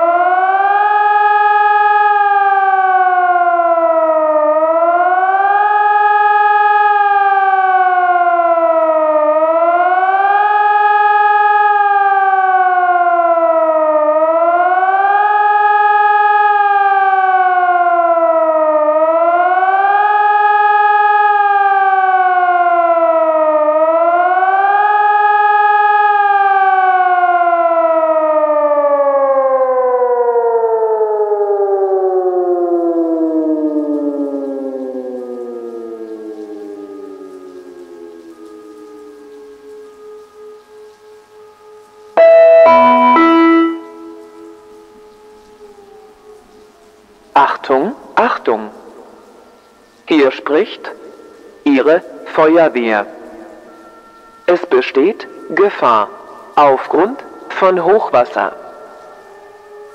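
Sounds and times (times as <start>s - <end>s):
rising and falling siren howl: 0.0s - 47.3s, 48.6s - 59.9s.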